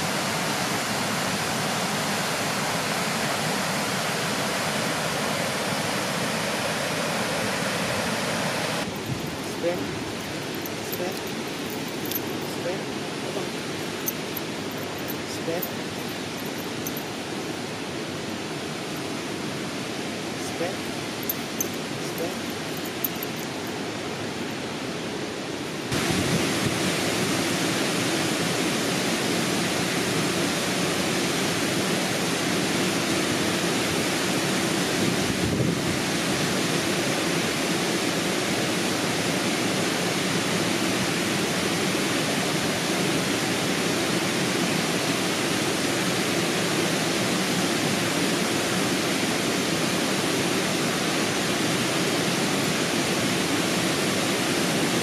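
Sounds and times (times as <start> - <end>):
rushing water of stream: 0.0 - 55.0.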